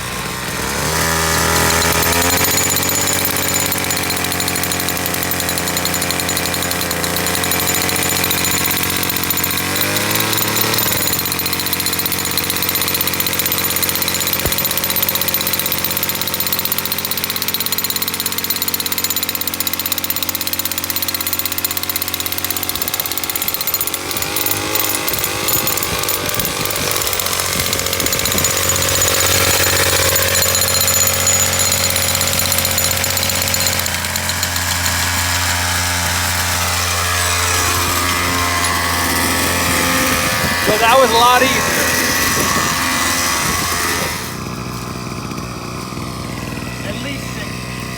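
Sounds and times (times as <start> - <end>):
jackhammer hammering rod into soil: 0.0 - 47.9.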